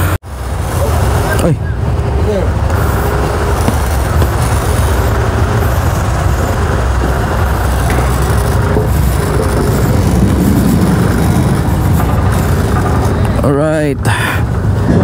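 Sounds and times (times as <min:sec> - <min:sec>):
scooter engine: 0:00.0 - 0:15.0
wind buffeting microphone: 0:00.0 - 0:15.0
wind rush: 0:00.0 - 0:15.0.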